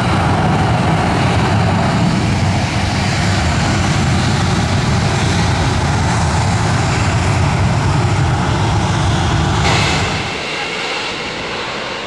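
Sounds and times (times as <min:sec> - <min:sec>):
jet engines rumbling with hiss: 0:00.0 - 0:12.0.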